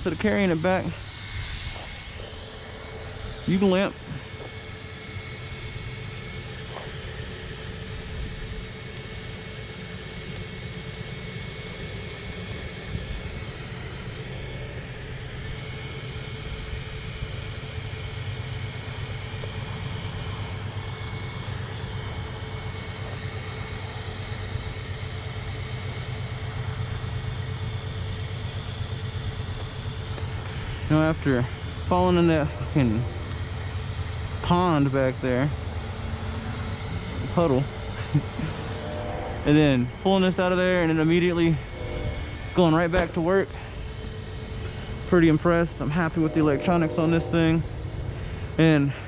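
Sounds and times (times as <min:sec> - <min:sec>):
faint whine: 0:00.0 - 0:49.0
rc car low rumble: 0:00.0 - 0:49.0.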